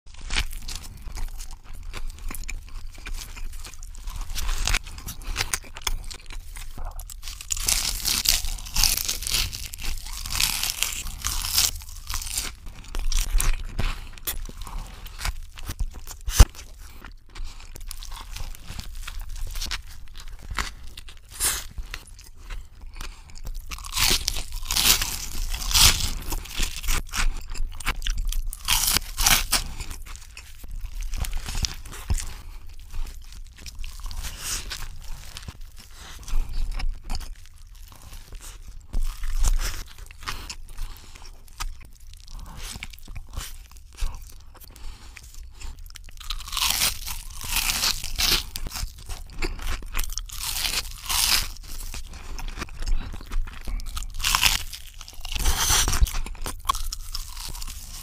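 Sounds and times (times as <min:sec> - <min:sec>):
crunching and chewing food: 0:00.1 - 0:58.0.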